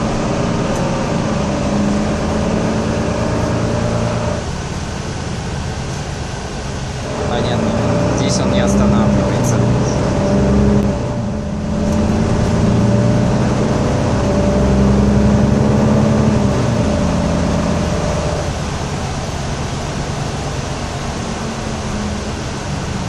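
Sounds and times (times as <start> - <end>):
bus diesel engine under load: 0.0 - 23.0.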